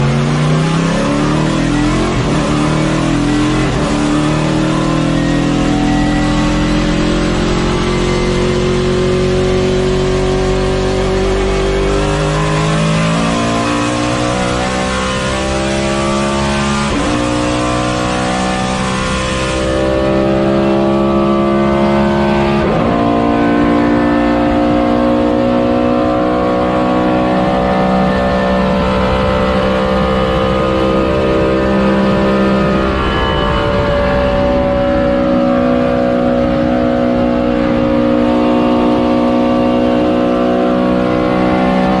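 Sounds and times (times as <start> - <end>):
race car engine accelerating: 0.0 - 42.0.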